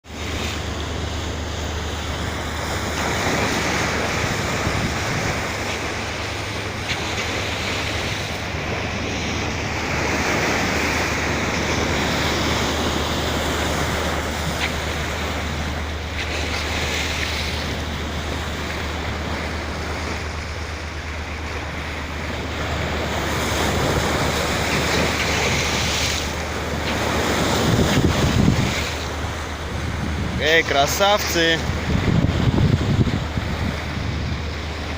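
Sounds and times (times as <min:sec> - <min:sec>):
sea water rushing: 0:00.0 - 0:34.9
constant low hum: 0:00.1 - 0:34.9
wind buffeting microphone: 0:02.2 - 0:30.7, 0:31.5 - 0:34.9.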